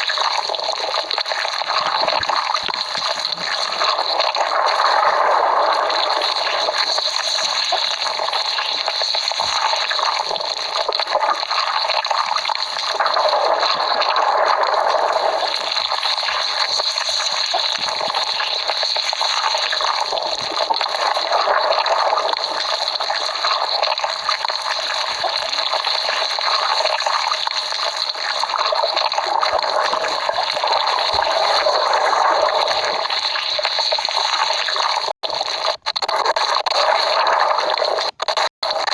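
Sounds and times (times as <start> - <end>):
cartoon stomach growling: 0.0 - 38.9.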